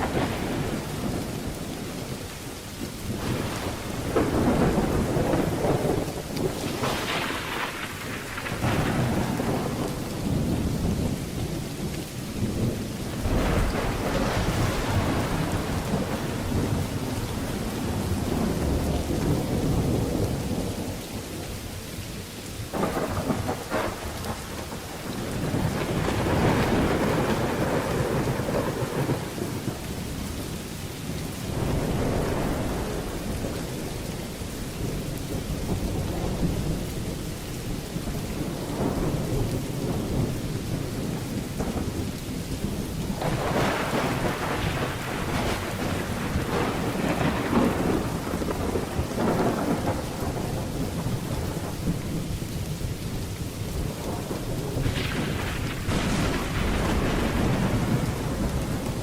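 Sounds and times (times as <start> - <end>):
rolling thunder: 0.0 - 21.7, 22.6 - 59.0
heavy rain: 0.0 - 59.0.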